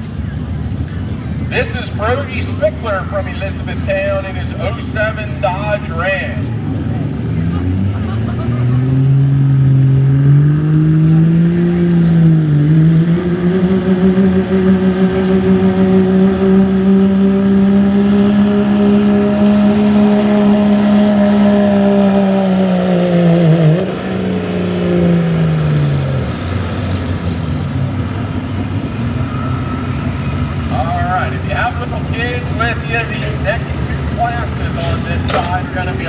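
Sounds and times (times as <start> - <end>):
diesel engine at full power: 0.0 - 36.0.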